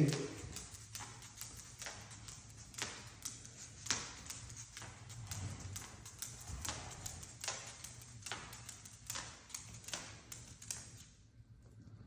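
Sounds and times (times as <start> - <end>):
bird claws tapping on hard floor: 0.0 - 11.1.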